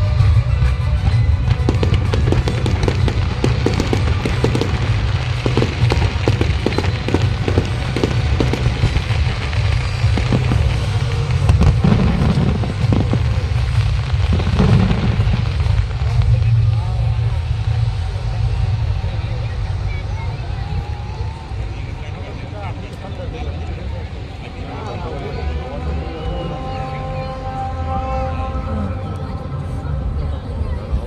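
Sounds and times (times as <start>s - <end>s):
fireworks bangs and crackles: 0.0s - 28.8s.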